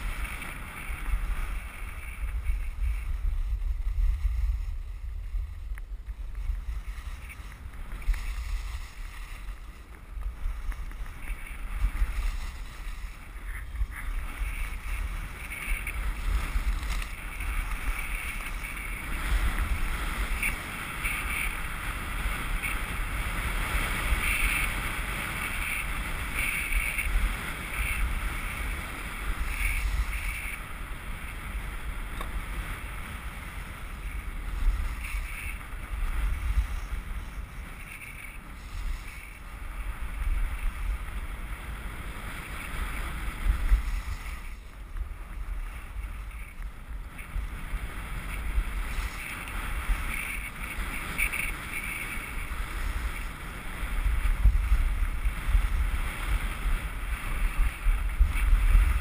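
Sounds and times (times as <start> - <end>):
skis scraping on packed snow: 0.0 - 59.0
wind buffeting microphone: 0.0 - 59.0.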